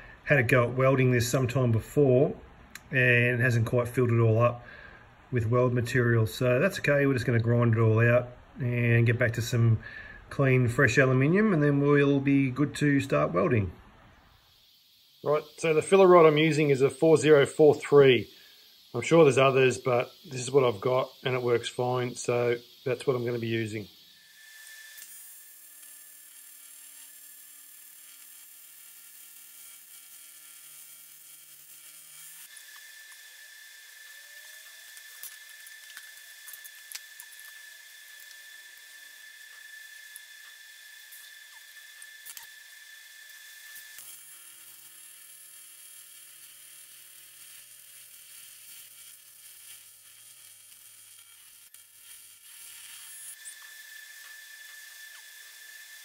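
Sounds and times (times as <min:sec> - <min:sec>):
welding arc buzzing: 0:10.5 - 0:56.0.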